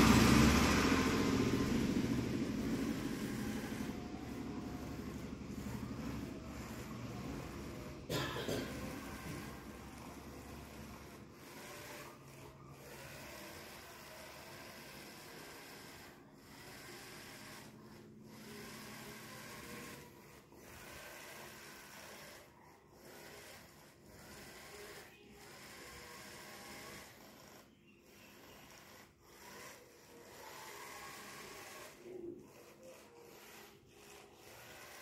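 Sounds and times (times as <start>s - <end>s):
small gear motors whirring: 0.0s - 35.0s.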